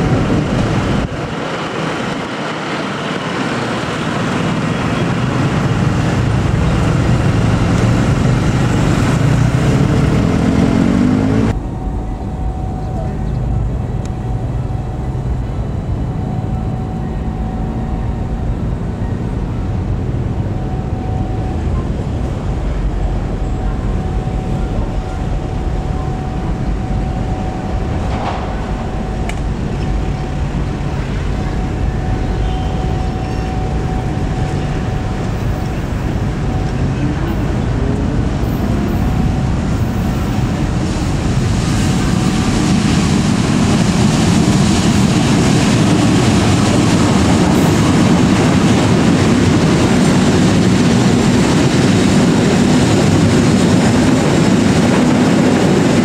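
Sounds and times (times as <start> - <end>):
locomotive engine rumbling: 0.0 - 56.0.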